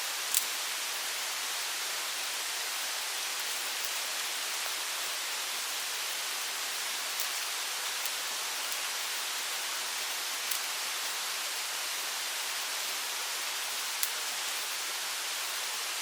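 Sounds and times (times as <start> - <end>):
mountain stream rushing: 0.0 - 16.0.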